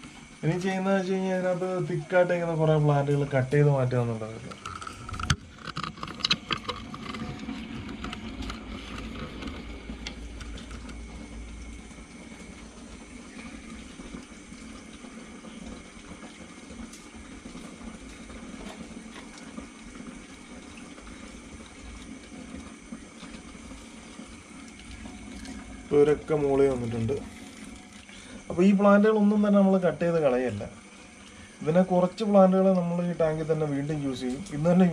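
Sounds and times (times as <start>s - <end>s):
aquarium water bubbling: 0.0s - 34.9s
small clicks and splashes: 4.3s - 28.5s, 30.1s - 34.9s.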